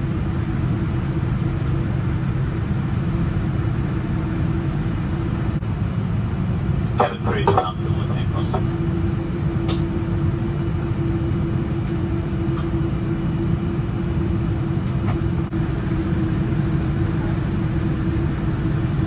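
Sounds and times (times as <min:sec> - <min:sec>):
aircraft cabin rumble: 0:00.0 - 0:19.0
constant hum: 0:00.0 - 0:19.0.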